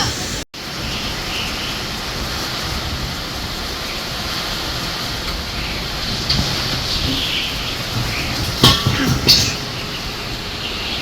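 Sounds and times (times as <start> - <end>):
hurricane wind: 0.0 - 11.0
rain: 0.0 - 11.0.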